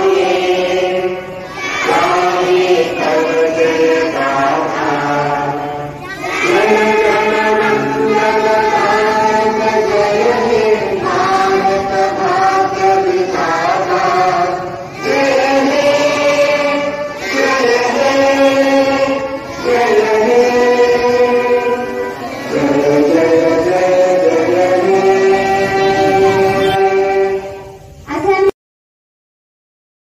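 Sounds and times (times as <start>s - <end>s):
children singing in unison: 0.0s - 28.0s.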